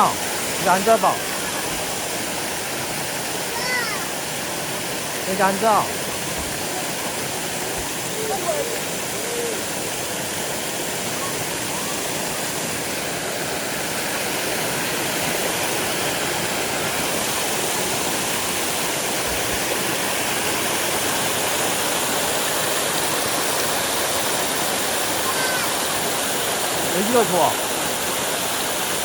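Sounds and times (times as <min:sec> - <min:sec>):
stream flowing over rocks: 0:00.0 - 0:29.0.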